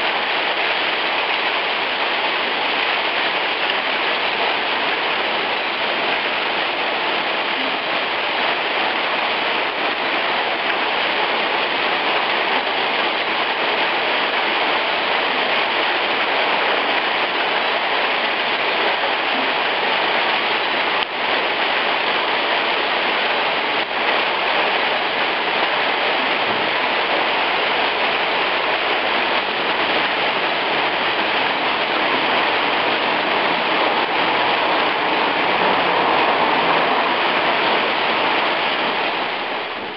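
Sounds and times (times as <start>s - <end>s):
hail falling on cobblestones: 0.0s - 39.9s.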